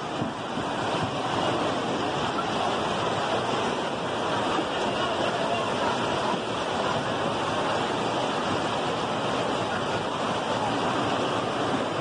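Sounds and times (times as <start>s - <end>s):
heavy rain and rushing floodwater: 0.0s - 12.0s.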